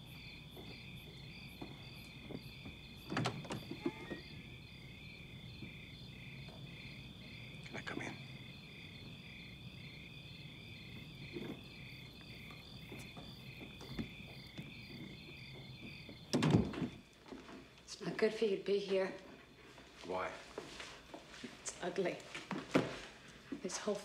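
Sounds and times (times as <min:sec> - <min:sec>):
crickets trilling and chirping: 0:00.0 - 0:24.0.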